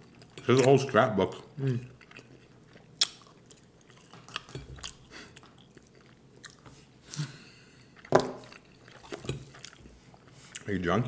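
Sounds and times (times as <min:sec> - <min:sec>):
people chewing and mouth sounds: 0:00.0 - 0:11.0.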